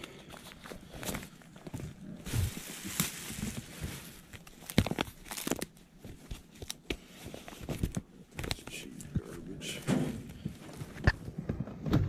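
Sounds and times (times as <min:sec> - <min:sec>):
rustling of clothes and purses: 0:00.0 - 0:12.0.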